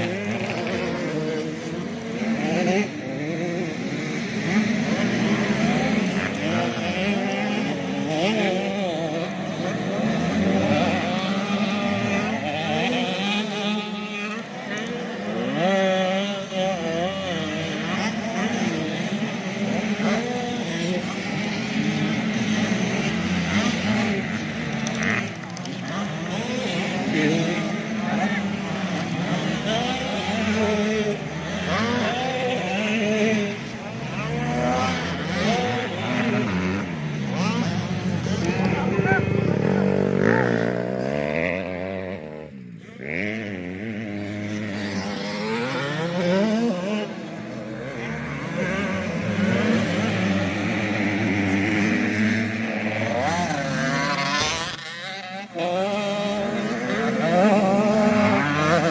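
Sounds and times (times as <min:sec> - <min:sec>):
motocross bikes revving: 0:00.0 - 0:58.9.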